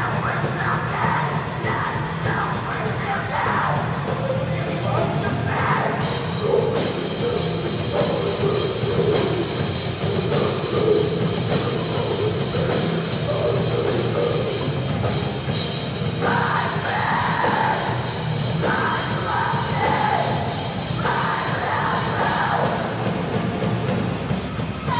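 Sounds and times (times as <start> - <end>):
distorted electric guitars: 0.0 - 24.9
drum kit: 0.0 - 24.9.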